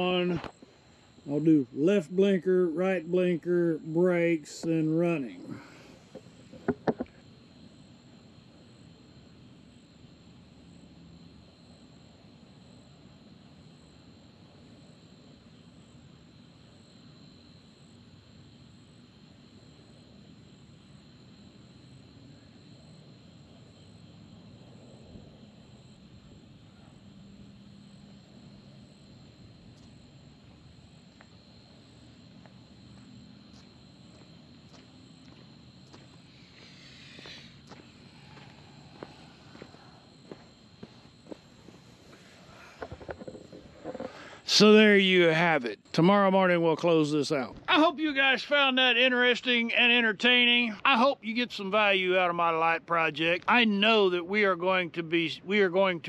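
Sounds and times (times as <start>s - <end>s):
faint low hum: 0.0s - 56.0s
high insect drone: 0.0s - 56.0s.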